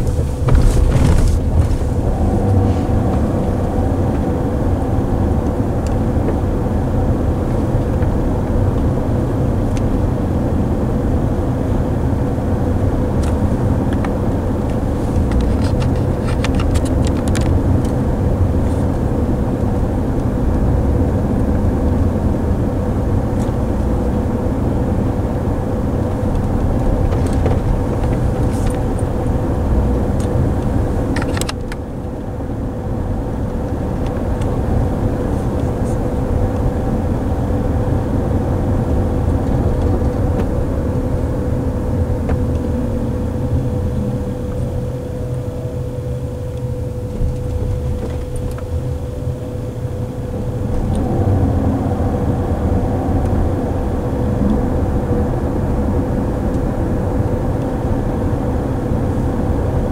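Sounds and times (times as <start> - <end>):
faint whine: 0.0 - 59.9
road and tyre noise: 0.0 - 59.9.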